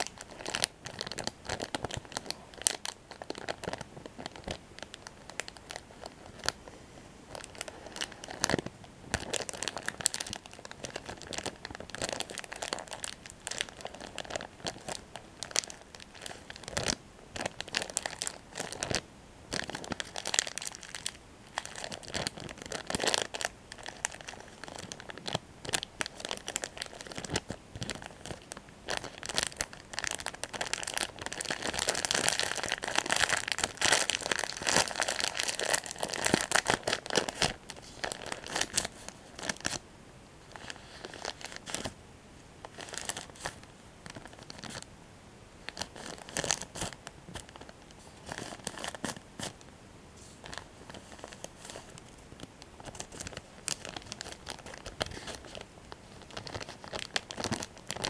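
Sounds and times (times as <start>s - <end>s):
plastic wrapper crinkling: 0.0s - 6.7s, 7.3s - 39.8s, 40.4s - 42.0s, 42.6s - 44.9s, 45.6s - 49.6s, 50.3s - 58.0s.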